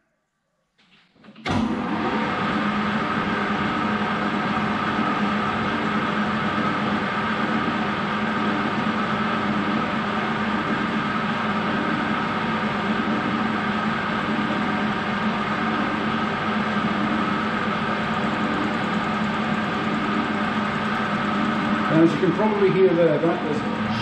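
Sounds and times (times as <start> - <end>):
metal lathe running: 1.7 - 24.0.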